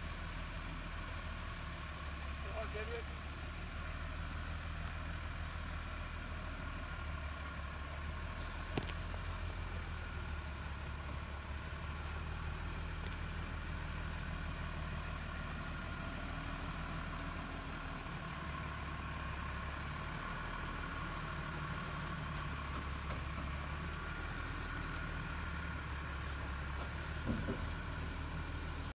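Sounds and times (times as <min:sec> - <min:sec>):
vehicle engine running at low revs: 0:00.0 - 0:28.9.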